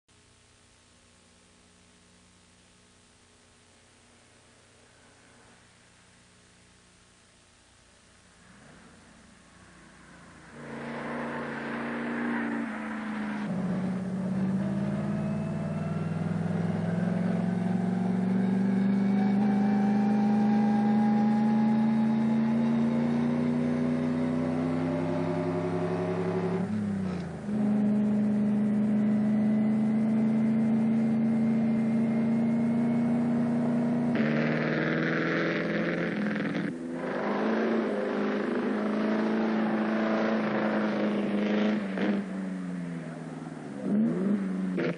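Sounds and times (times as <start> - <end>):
sports car engine accelerating: 8.5 - 44.9.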